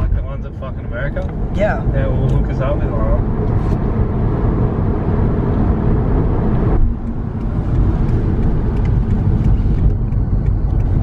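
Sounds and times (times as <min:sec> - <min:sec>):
road and engine rumble: 0:00.0 - 0:11.0.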